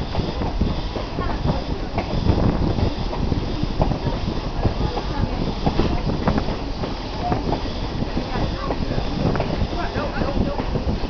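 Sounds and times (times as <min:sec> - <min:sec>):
railroad car rumbling: 0:00.0 - 0:11.0
wheels clacking and knocking: 0:00.0 - 0:11.0.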